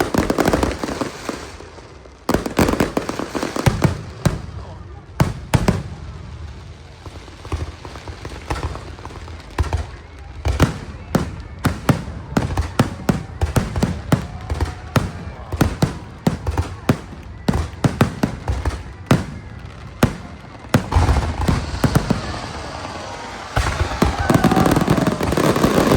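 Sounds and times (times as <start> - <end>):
fireworks bursting with bangs: 0.0 - 25.9.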